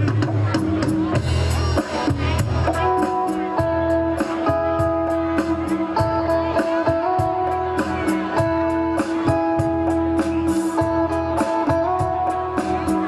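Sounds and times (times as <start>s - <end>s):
instrumental band music: 0.0s - 13.0s
electric guitar playing: 1.3s - 13.0s.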